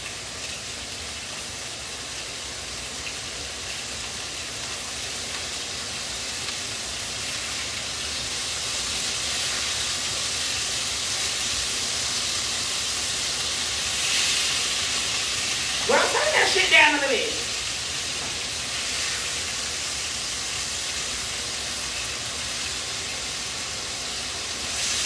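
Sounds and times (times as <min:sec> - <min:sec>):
burgers sizzling in a pan: 0:00.0 - 0:25.0.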